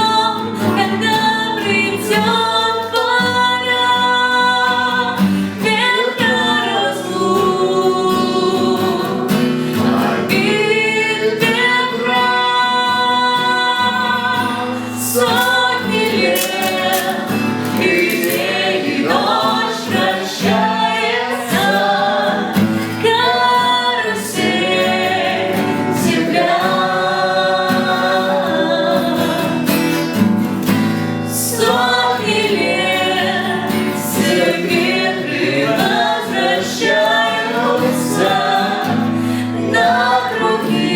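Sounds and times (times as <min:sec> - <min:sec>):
group of voices singing: 0:00.0 - 0:40.9
guitar accompaniment: 0:00.0 - 0:40.9.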